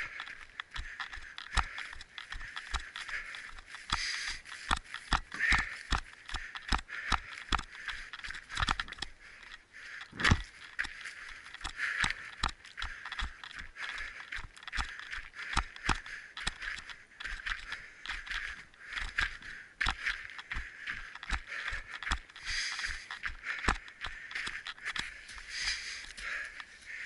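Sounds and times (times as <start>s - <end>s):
running footsteps: 0.0s - 27.0s.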